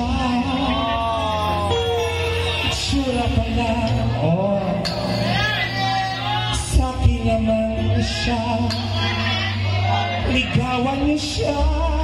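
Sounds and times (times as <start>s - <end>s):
bass guitar: 0.0s - 12.0s
keyboard: 0.0s - 12.0s
person singing with vibrato: 0.0s - 12.0s.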